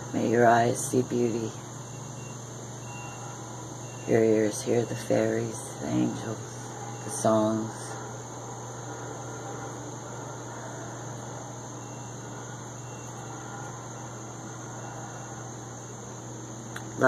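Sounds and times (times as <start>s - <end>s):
high-pitched drone: 0.0s - 16.2s
constant low hum: 0.0s - 17.0s.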